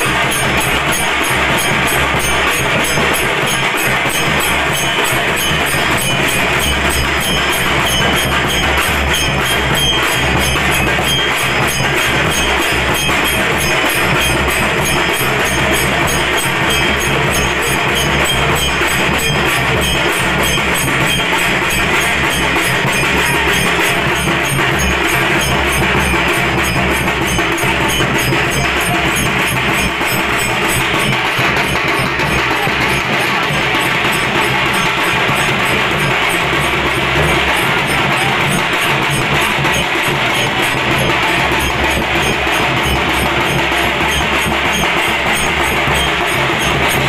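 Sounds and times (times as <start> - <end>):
drums beaten in fast rhythm: 0.0 - 47.0
jingling metal percussion: 0.0 - 47.0.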